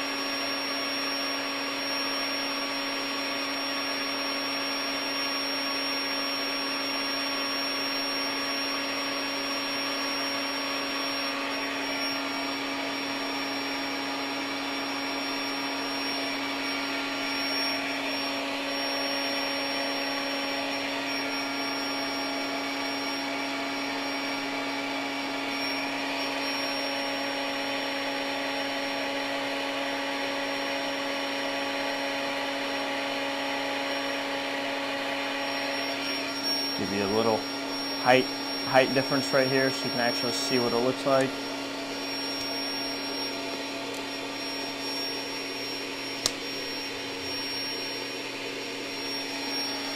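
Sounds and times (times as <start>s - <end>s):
air mattress pump whirring: 0.0s - 49.9s.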